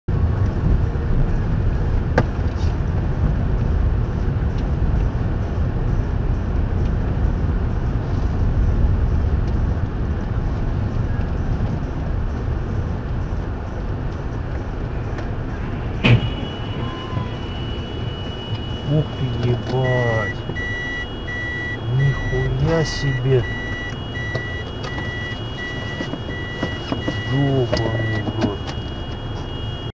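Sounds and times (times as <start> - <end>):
car engine and tyres rumbling: 0.1 - 29.9.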